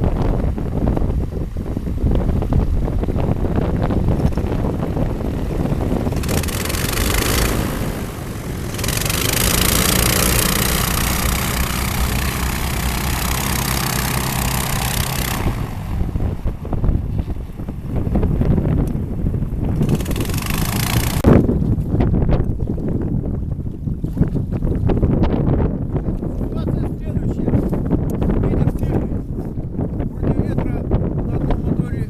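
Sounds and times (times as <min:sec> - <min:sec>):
airboat engine and propeller: 0:00.0 - 0:32.0
wind rumble on microphone: 0:00.0 - 0:32.0.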